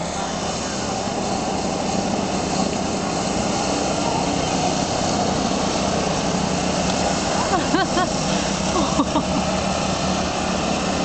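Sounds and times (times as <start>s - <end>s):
go-kart engines running: 0.0s - 11.0s.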